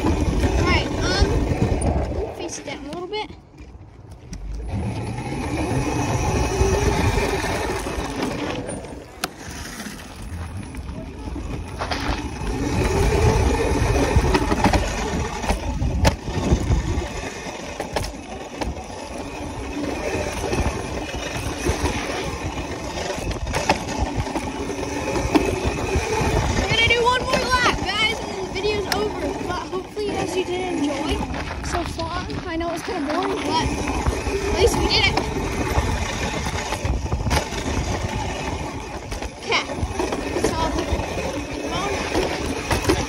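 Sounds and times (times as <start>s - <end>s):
dirt bike engine revving: 0.0s - 2.8s, 4.4s - 43.0s
wind rushing over microphone: 0.0s - 3.3s, 4.4s - 8.9s, 9.5s - 43.0s.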